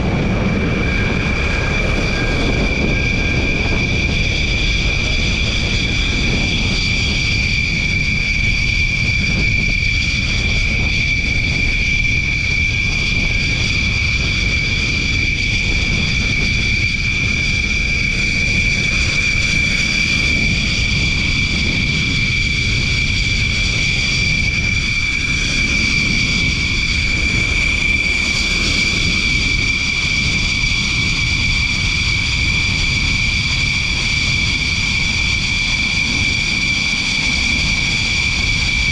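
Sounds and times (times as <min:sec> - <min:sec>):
jet engines idling: 0:00.0 - 0:38.9.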